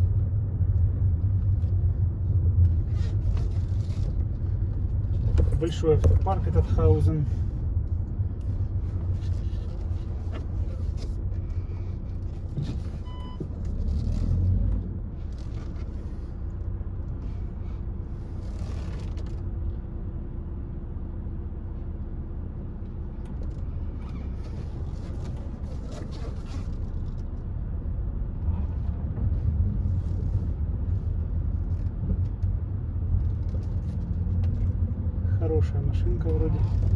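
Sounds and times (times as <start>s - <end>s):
diesel engine and road noise: 0.0s - 36.9s.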